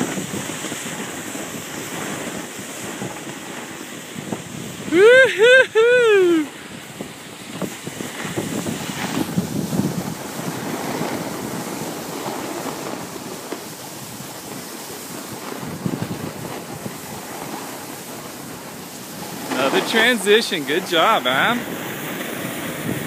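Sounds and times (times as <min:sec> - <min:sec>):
boards scraping on snow: 0:00.0 - 0:04.9, 0:06.5 - 0:23.0
wind buffeting microphone: 0:00.0 - 0:23.0.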